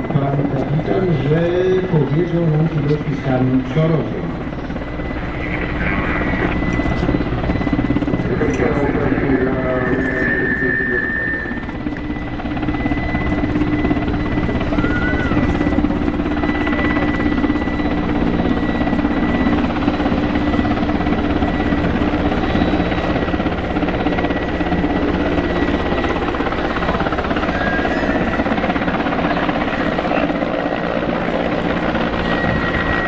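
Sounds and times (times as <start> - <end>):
helicopter rotor noise: 0.0 - 33.0
high turbine whine: 0.0 - 33.0.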